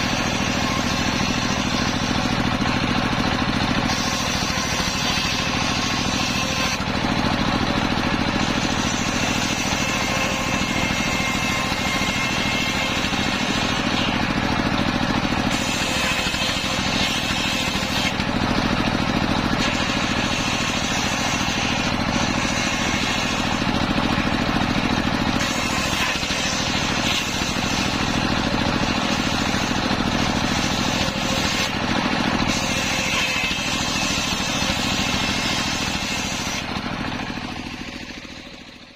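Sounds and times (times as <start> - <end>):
circular saw cutting wood: 0.0 - 38.9
engine drone: 0.0 - 38.9.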